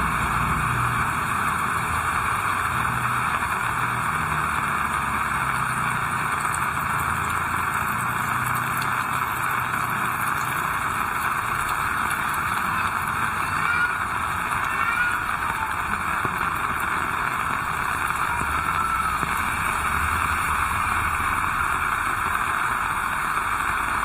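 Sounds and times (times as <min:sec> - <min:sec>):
heavy rain: 0:00.0 - 0:24.0
vehicle engine running low: 0:00.0 - 0:24.0.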